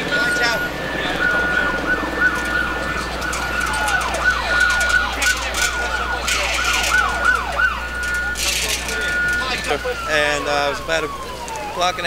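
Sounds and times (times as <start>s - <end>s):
siren yelping: 0.0s - 12.0s.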